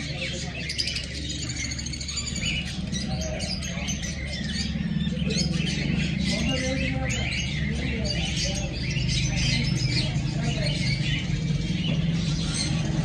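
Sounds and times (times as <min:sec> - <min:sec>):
birds chirping and twittering: 0:00.0 - 0:13.0
steady low hum: 0:00.0 - 0:13.0.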